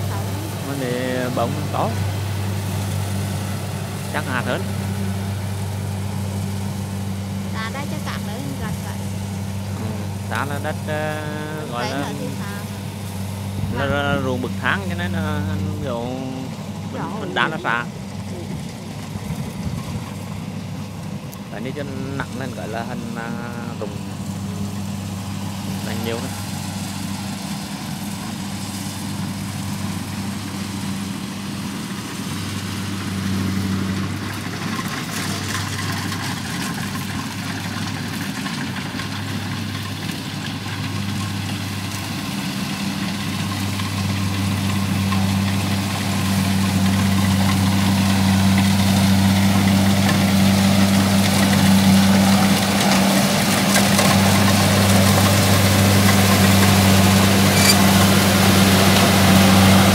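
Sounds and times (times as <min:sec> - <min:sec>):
combine harvester engine humming: 0:00.0 - 0:59.9.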